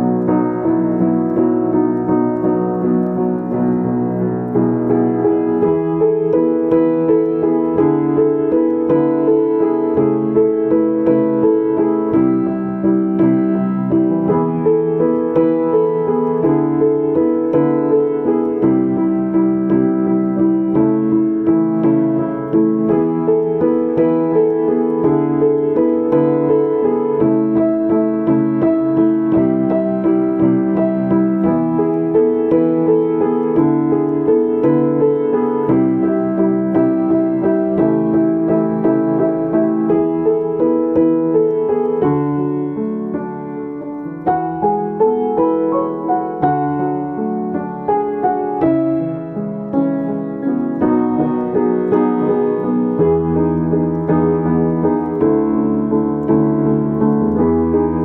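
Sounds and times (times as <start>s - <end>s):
solo piano improvisation: 0.0s - 58.0s.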